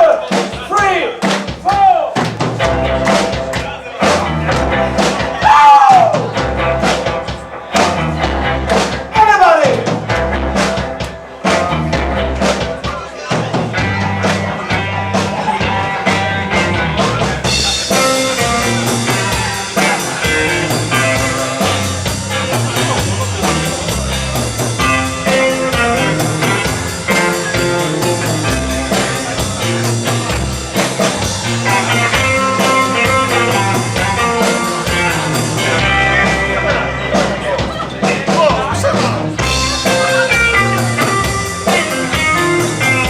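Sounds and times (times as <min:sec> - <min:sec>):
rock band playing: 0:00.0 - 0:43.0.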